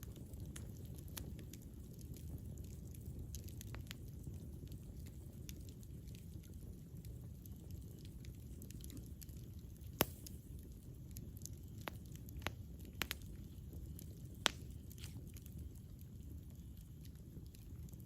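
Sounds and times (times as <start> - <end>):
campfire flames rumbling: 0.0 - 18.0
fire crackling pops: 0.0 - 18.0
light ticking of fire: 0.0 - 18.0.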